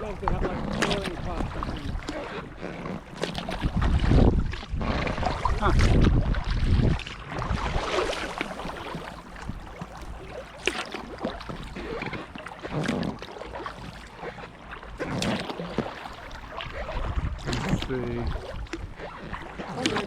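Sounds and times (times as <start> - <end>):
paddle blades splashing: 0.0 - 20.0
water gurgling along hull: 0.0 - 20.0.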